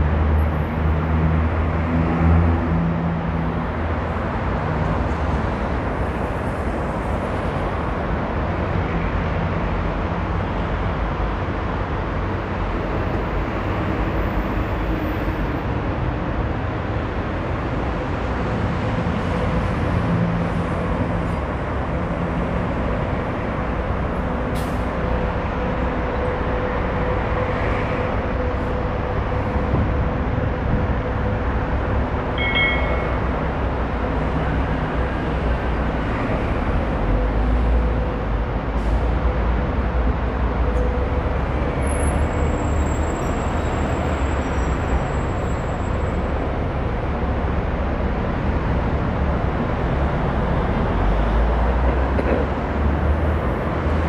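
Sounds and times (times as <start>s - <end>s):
vehicle road and engine noise: 0.0s - 54.0s.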